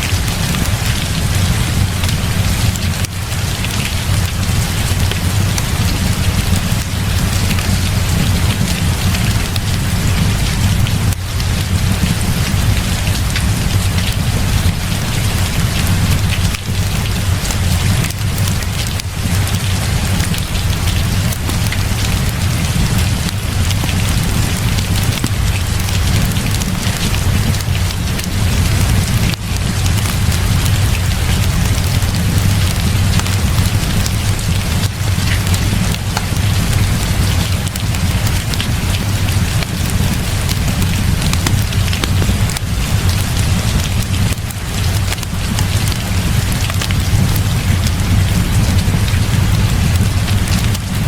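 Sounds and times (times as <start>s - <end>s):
fireplace crackling: 0.0s - 51.0s
heavy rain falling: 0.0s - 51.0s.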